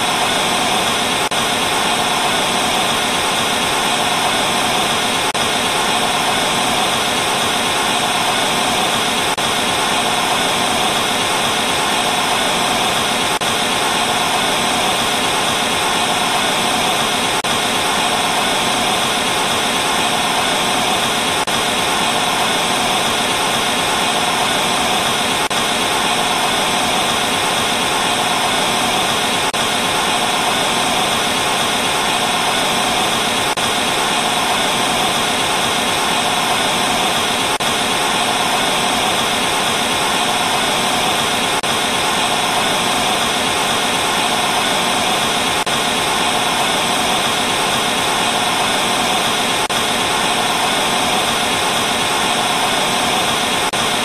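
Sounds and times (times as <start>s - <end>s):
tv static hiss: 0.0s - 54.0s.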